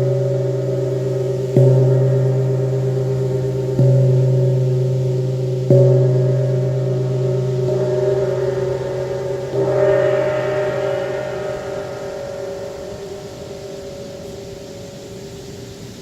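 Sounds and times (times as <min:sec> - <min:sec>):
wind gong struck with mallet: 0:00.0 - 0:15.4.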